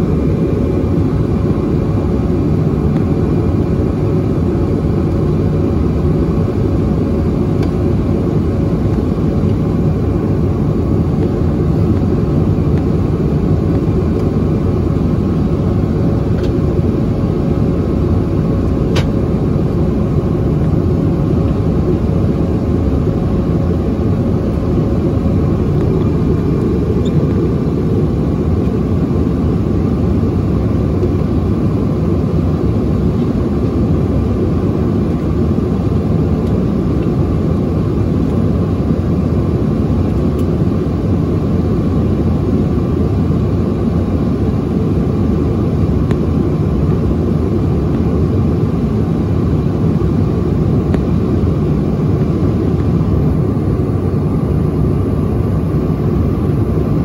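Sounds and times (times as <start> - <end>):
airflow rush in cabin: 0.0 - 57.0
faint steady whine: 0.0 - 57.0
jet engine hum: 0.0 - 57.0.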